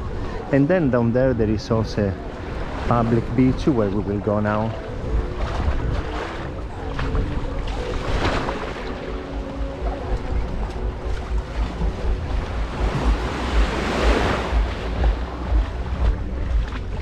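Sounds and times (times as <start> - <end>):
small waves washing on shore: 1.9 - 17.0
wind buffeting microphone: 2.2 - 17.0.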